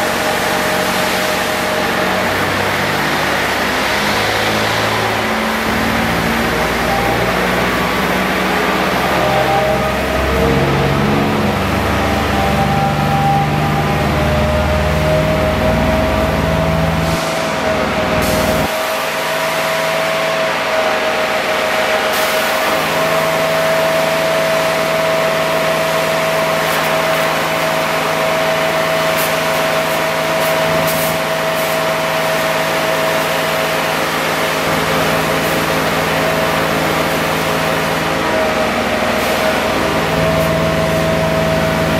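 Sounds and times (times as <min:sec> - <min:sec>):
vacuum pump whine: 0:00.0 - 0:41.9.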